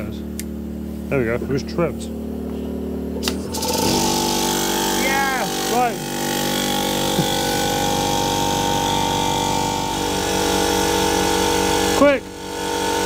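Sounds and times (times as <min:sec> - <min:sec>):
electric air compressor humming: 0:00.0 - 0:13.0.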